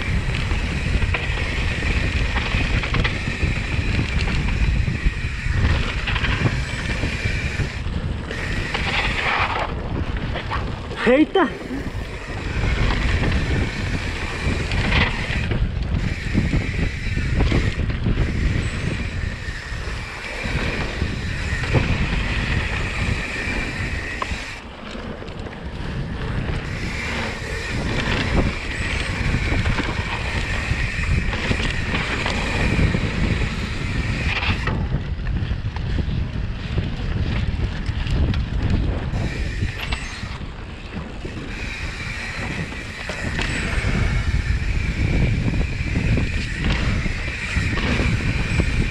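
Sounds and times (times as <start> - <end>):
bike rattling and knocking: 0.0 - 48.9
tyres rolling over dirt: 0.0 - 48.9
wind buffeting microphone: 0.0 - 48.9.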